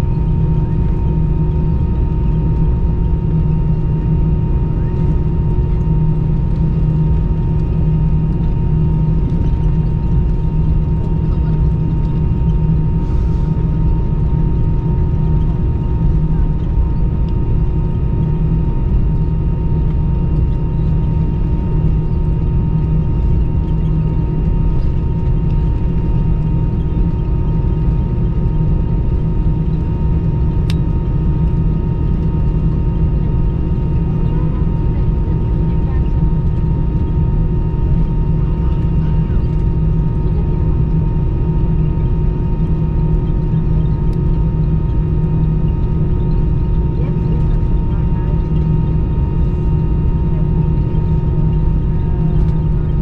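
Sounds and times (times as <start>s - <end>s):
jet engines idling in cabin: 0.0s - 53.0s.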